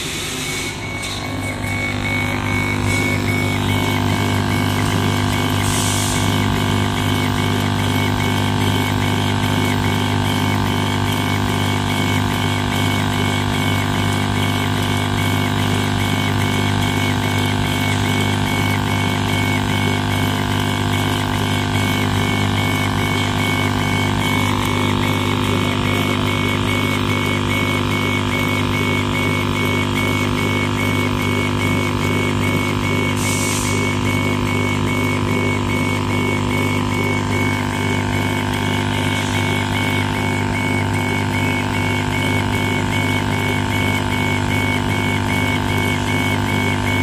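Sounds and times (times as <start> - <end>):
cnc machine hum and whine: 0.0 - 47.0.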